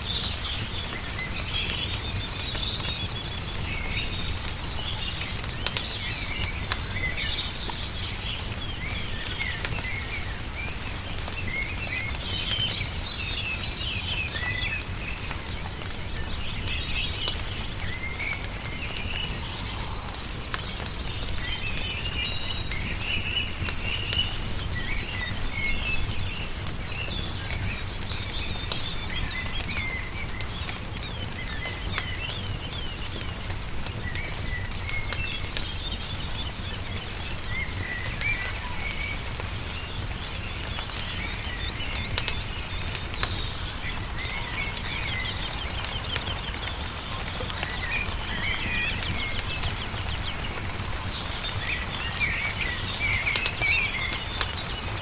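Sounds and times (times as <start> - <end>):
small birds chirping and trilling: 0.0 - 55.0
wood fire crackling: 0.0 - 55.0.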